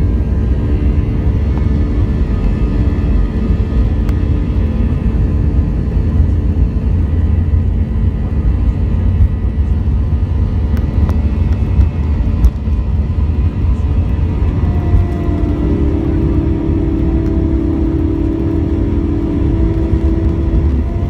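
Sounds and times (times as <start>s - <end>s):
engine tones: 0.0s - 21.0s
jet engine cabin rumble: 0.0s - 21.0s.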